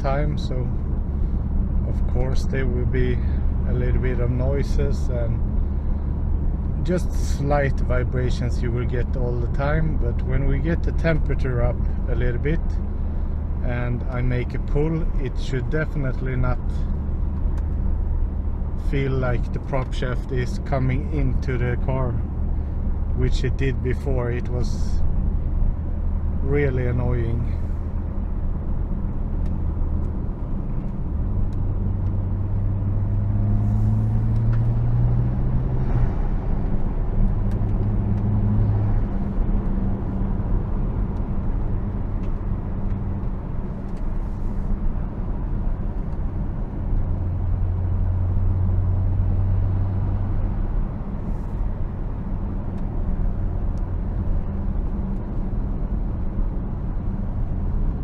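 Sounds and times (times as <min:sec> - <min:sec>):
car engine humming: 0:00.0 - 0:58.0
road and tyre noise: 0:00.0 - 0:58.0.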